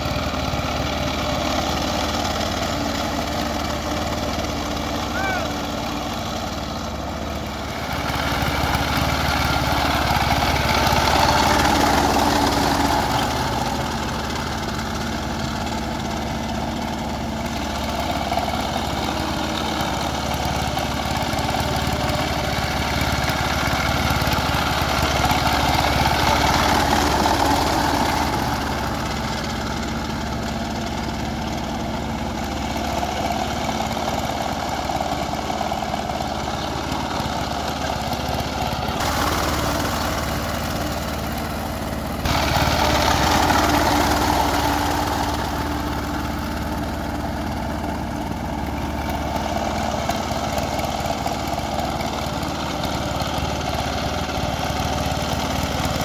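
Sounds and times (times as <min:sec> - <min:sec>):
diesel tiller engine running: 0:00.0 - 0:56.0
wheels churning through water: 0:00.0 - 0:56.0.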